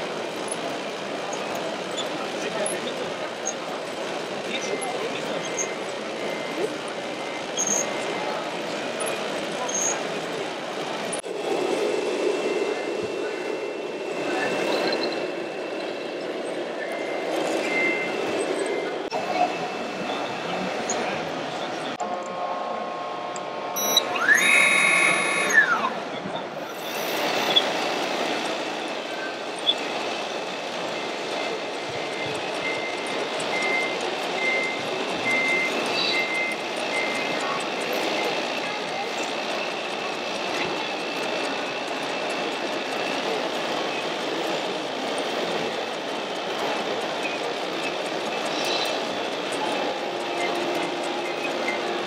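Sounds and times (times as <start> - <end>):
crowd chatter: 0.0 - 52.0
mechanical whine: 0.0 - 52.0
model trucks running: 0.0 - 52.0.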